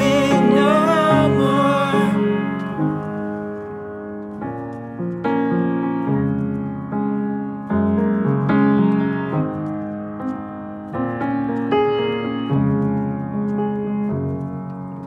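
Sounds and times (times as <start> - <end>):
upright piano chords: 0.0 - 15.0.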